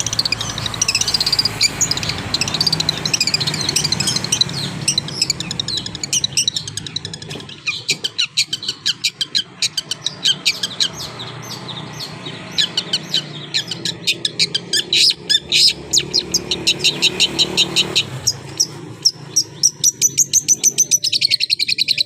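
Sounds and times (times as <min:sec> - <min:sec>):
bird chattering song: 0:00.0 - 0:22.0.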